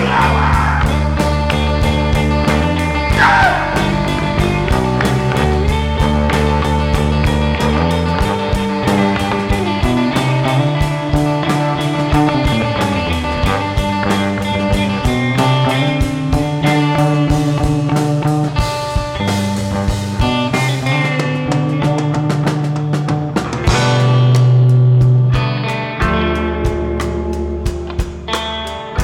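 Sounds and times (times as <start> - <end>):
bass line: 0.0 - 29.0
guitar: 0.0 - 29.0
steady drum beat: 0.0 - 29.0.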